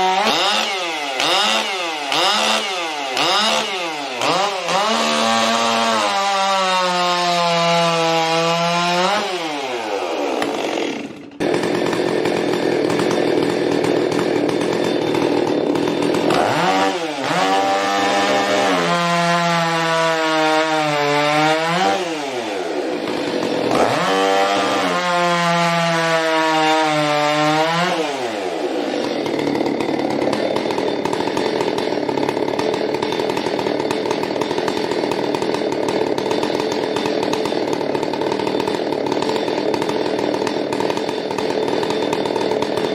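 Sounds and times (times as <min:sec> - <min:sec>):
chainsaws cutting wood: 0:00.0 - 0:42.9.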